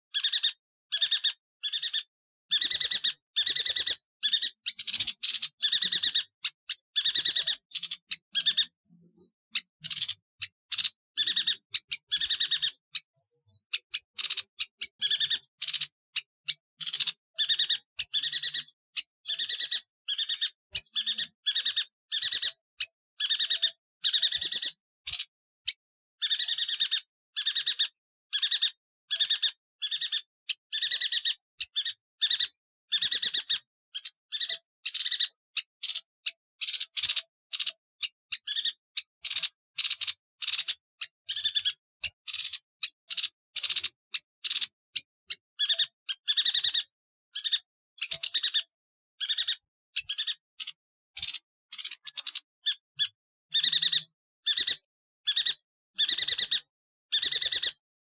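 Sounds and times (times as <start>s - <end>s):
bird calling in fast trills: 0.1s - 57.8s.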